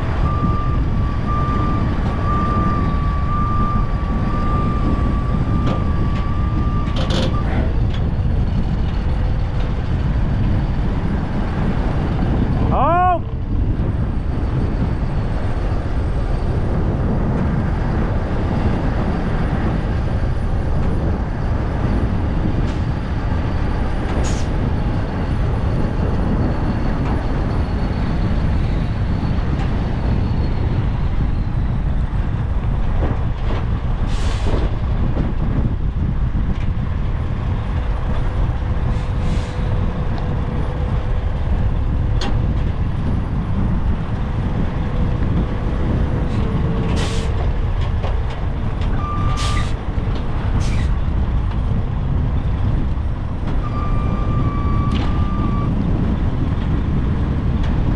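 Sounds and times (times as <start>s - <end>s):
truck engines running: 0.0s - 57.9s
wind buffeting microphone: 0.0s - 57.9s.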